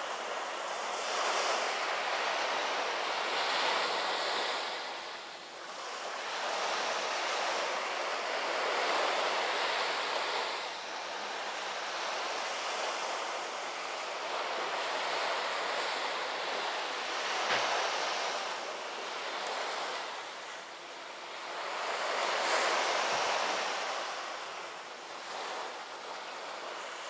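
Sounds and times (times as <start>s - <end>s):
waves washing on shore: 0.0s - 27.0s.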